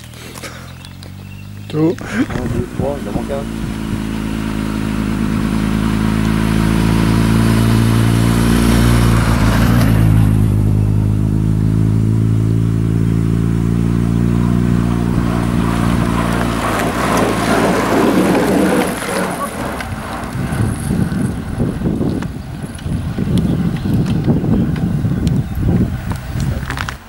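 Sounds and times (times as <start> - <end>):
cyclists rushing past: 0.0 - 27.0.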